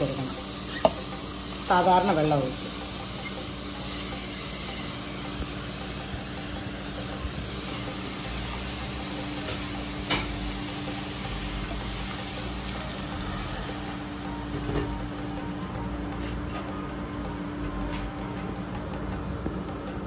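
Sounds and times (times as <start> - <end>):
gas stove hissing: 0.0 - 20.0.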